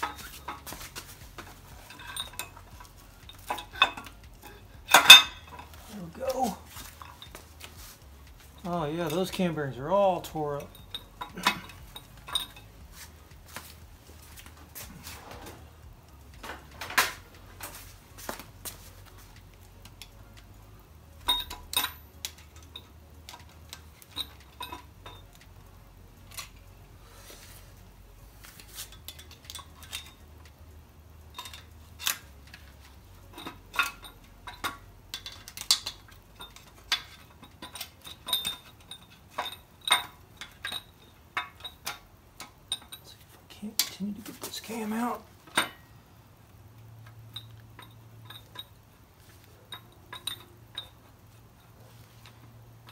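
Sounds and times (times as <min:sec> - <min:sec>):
metal tools clinking and tapping: 0:00.0 - 0:25.6, 0:26.2 - 0:27.5, 0:28.4 - 0:30.6, 0:31.3 - 0:46.0, 0:47.0 - 0:52.9.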